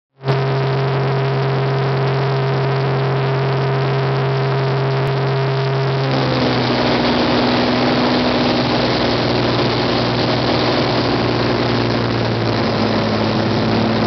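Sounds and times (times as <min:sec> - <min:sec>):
propeller plane engine droning: 0:00.3 - 0:14.0.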